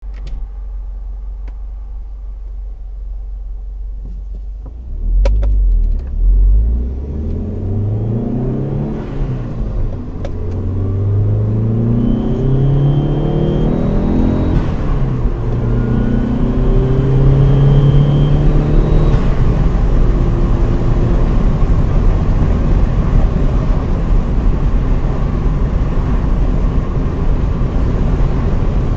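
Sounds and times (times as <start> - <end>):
car engine running: 0.0 - 28.9.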